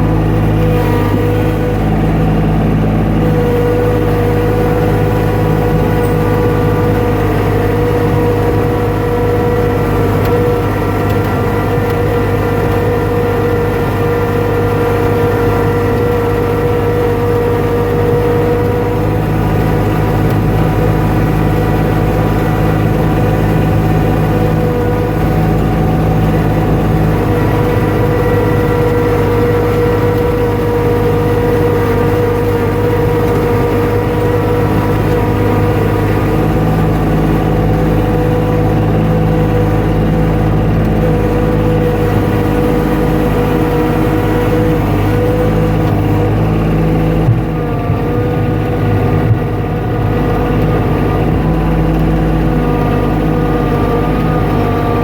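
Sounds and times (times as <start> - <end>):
motor humming steadily: 0.0 - 55.0.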